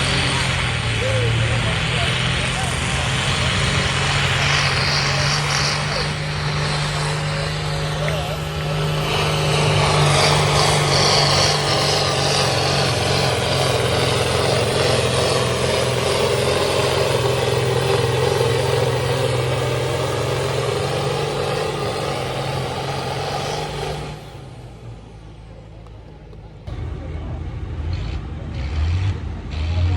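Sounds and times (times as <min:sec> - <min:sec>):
tractor engine running hard: 0:00.0 - 0:29.9.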